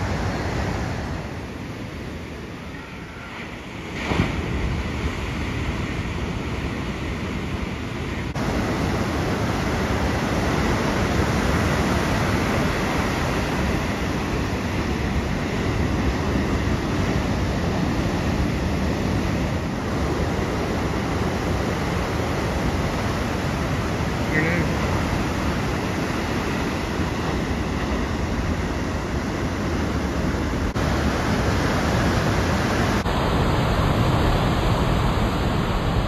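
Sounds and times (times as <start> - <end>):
waves breaking: 0.0 - 36.0
wind buffeting microphone: 4.0 - 36.0.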